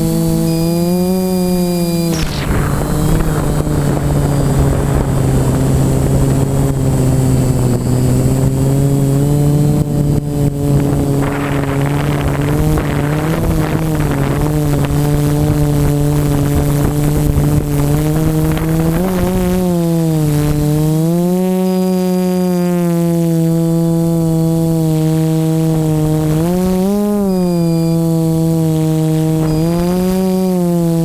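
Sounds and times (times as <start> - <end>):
model aircraft motors droning: 0.0 - 31.0
wind noise on microphone: 0.0 - 31.0.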